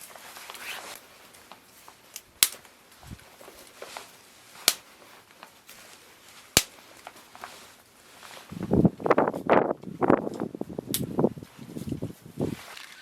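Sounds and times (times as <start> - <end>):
wood fire popping: 0.0 - 12.6.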